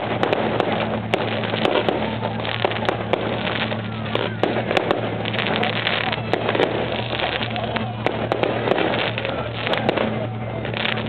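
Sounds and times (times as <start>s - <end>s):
fireworks crackling and popping: 0.0s - 11.0s
low steady hum: 0.0s - 11.0s.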